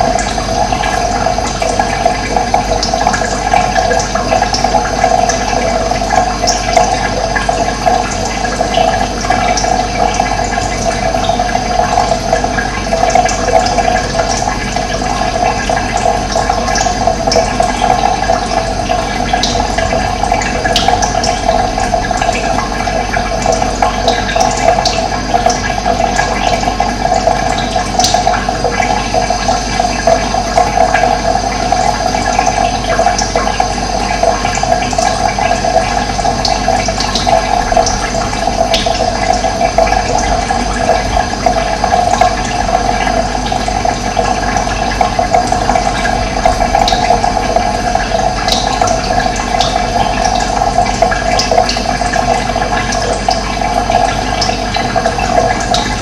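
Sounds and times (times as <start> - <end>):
water flowing and gurgling: 0.0 - 56.0.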